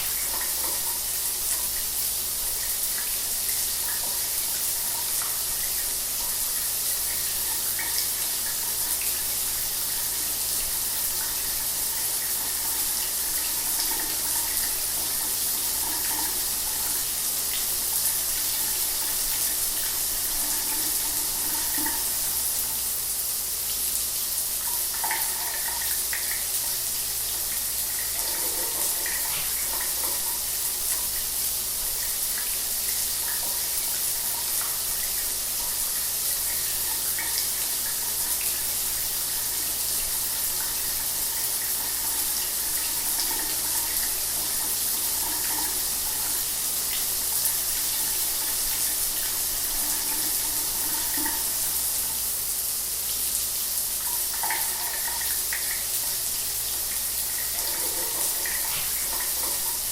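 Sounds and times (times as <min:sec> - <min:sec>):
shower water running: 0:00.0 - 0:59.9.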